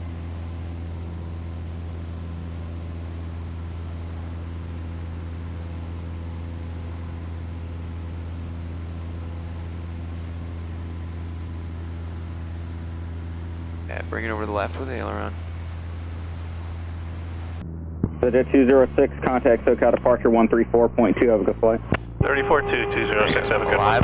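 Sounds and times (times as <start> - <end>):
aircraft piston engine droning: 0.0 - 24.0.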